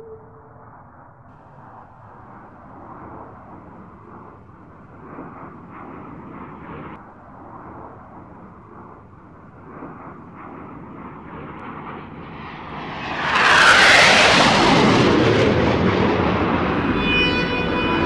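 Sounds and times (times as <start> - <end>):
propeller aircraft passing: 0.0 - 18.0.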